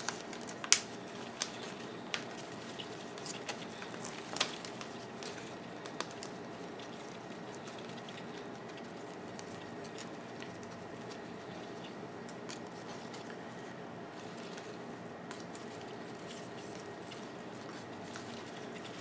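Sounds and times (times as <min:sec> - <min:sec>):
low room hum: 0:00.0 - 0:19.0
paper wrapping crackling: 0:00.0 - 0:19.0.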